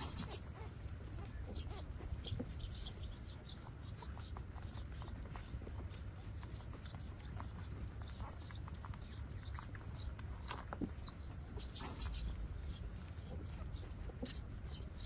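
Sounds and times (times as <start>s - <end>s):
puppies squeaking: 0.0s - 15.0s
puppies suckling clicks: 0.0s - 15.0s.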